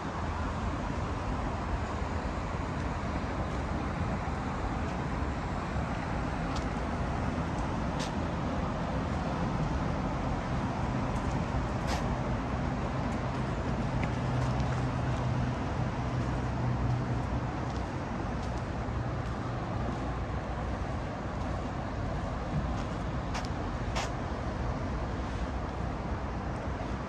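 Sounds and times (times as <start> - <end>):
low engine hum: 0.0 - 27.0
passing city traffic: 0.0 - 27.0.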